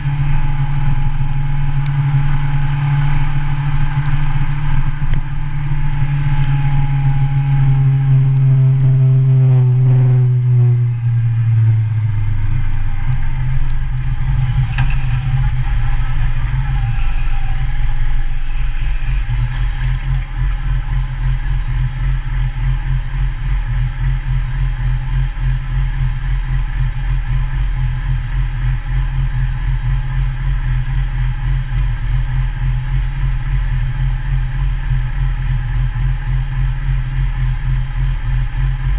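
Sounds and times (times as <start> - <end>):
motorcycle engine slowing to idle: 0.0 - 38.9.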